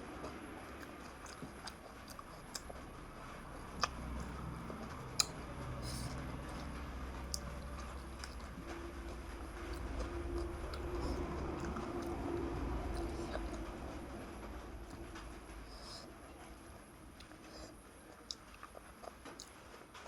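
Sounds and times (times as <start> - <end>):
person chewing crisp shell: 0.0 - 14.1, 17.1 - 19.7
low background rumble: 0.0 - 20.0.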